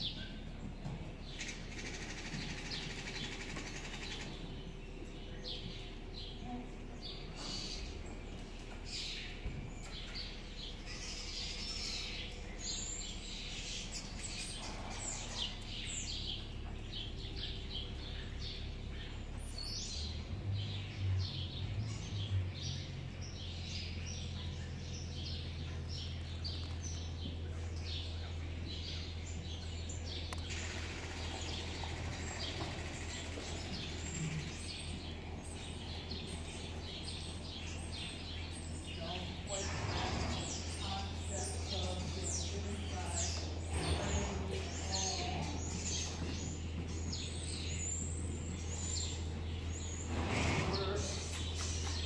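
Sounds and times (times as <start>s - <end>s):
low steady hum: 0.0s - 52.0s
small birds chirping: 0.0s - 52.0s.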